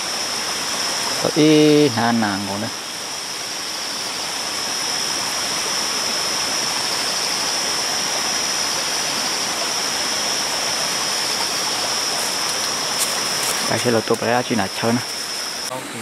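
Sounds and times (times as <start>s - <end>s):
continuous high-pitched whine: 0.0s - 16.0s
stream flowing over rocks: 0.0s - 16.0s.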